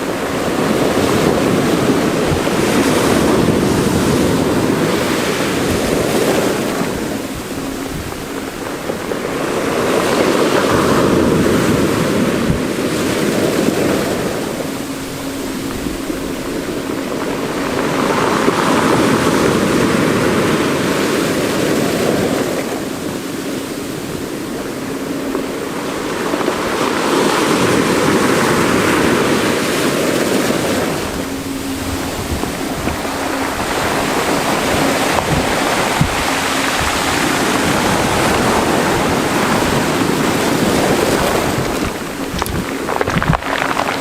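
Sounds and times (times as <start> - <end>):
waves breaking on rocky shore: 0.0 - 44.0.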